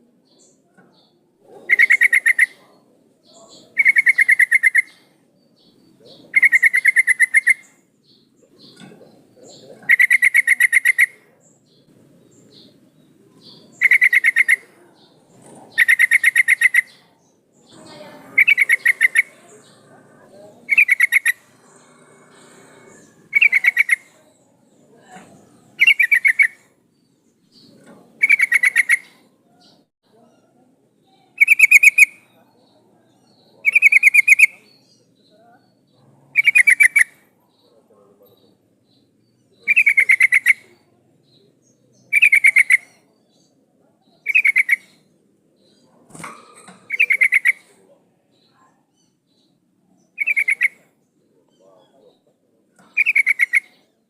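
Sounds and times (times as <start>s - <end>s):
bulbul chattering call: 0.2s - 30.3s, 31.2s - 54.0s.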